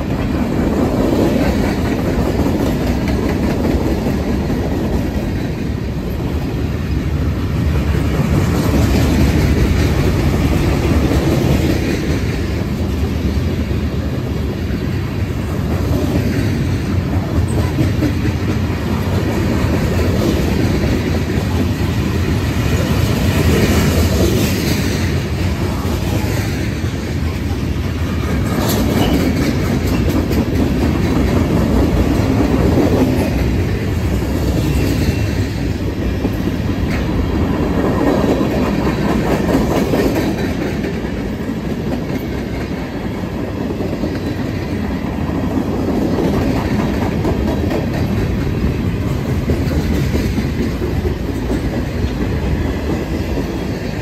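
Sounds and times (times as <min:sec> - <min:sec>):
train wheels rolling on rails: 0:00.0 - 0:54.0.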